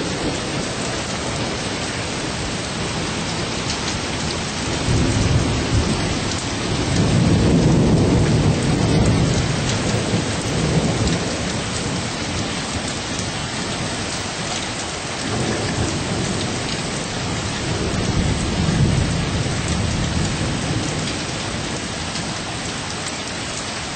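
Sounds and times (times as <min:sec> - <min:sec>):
rolling thunder: 0:00.0 - 0:22.7
heavy rain falling: 0:00.0 - 0:23.9.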